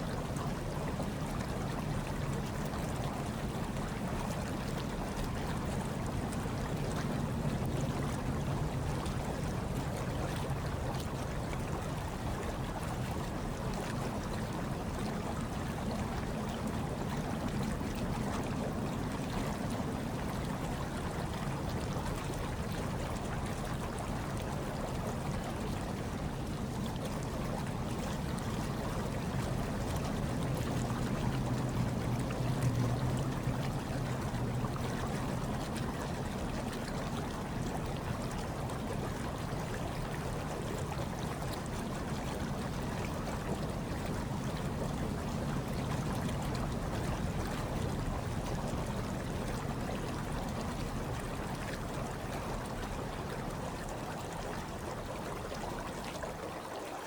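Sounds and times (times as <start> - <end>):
water bubbling and trickling: 0.0 - 57.0.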